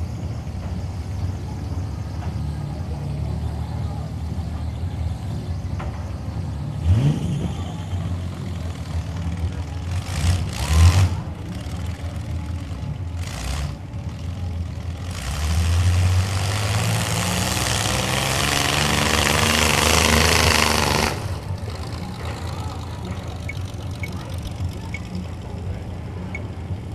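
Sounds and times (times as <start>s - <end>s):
engine revs: 0.0s - 26.9s
rushing engine noise: 0.0s - 26.9s
truck engines running: 0.0s - 26.9s.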